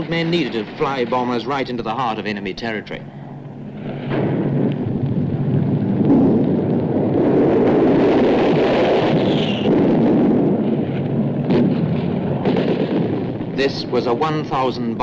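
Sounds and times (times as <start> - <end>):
bombs exploding: 0.0 - 2.7, 3.4 - 15.0.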